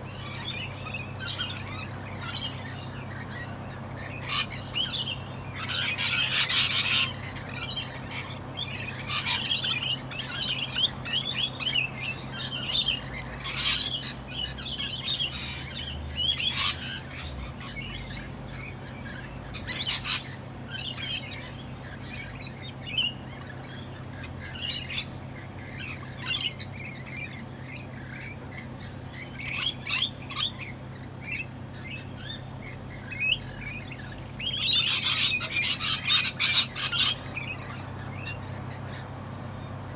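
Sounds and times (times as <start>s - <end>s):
parrots chirping and squawking: 0.1s - 39.9s.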